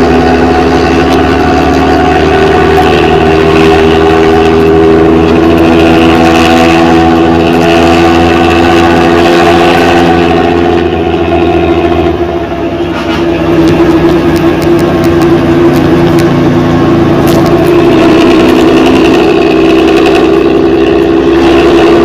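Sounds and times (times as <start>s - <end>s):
diesel bus engine loud exhaust: 0.0s - 22.0s.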